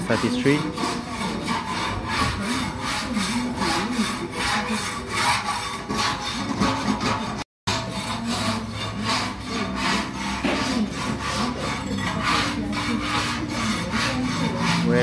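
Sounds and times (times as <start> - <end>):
coffee roaster scraping rasp: 0.0 - 15.0.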